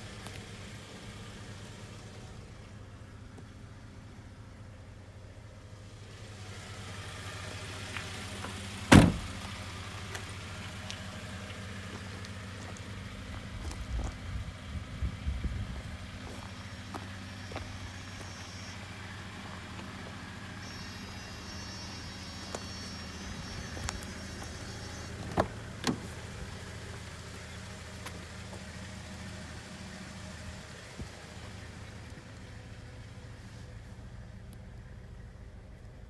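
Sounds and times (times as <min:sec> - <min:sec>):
van engine idling: 0:00.0 - 0:36.0.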